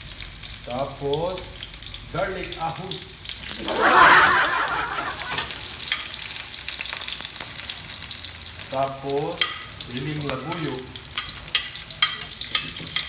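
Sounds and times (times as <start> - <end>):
onion sizzling in hot oil: 0.0 - 3.6, 5.5 - 13.0.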